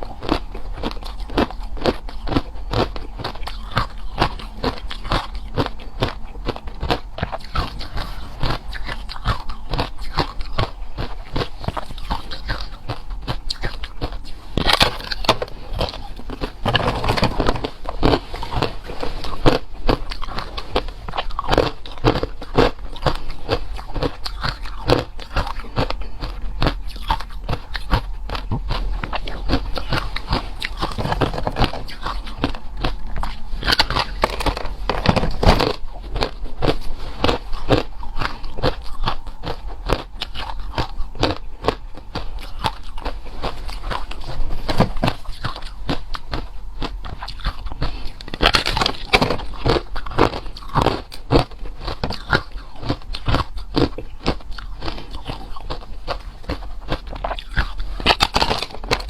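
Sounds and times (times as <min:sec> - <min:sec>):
ice crunching being chewed: 0:00.0 - 0:59.0.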